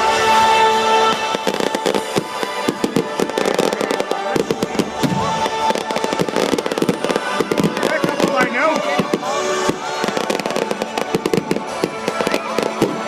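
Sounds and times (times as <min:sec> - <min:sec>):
fireworks crackling: 0:00.0 - 0:13.0
music playing: 0:00.0 - 0:13.0.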